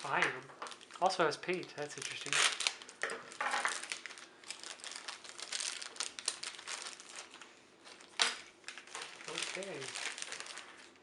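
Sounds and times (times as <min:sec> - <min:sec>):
plastic packaging crinkling: 0:00.0 - 0:11.0
sharp plastic crackle: 0:00.0 - 0:11.0.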